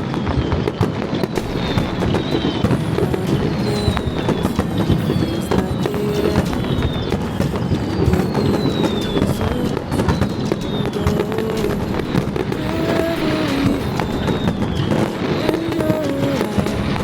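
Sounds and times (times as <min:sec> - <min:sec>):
fireworks popping and crackling: 0:00.0 - 0:17.0
music over loudspeakers: 0:00.0 - 0:17.0.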